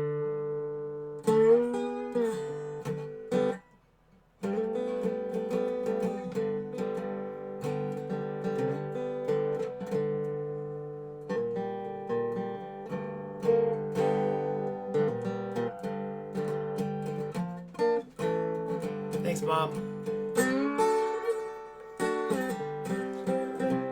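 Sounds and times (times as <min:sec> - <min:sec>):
resonator guitar picking: 0:00.0 - 0:03.8, 0:04.4 - 0:23.9.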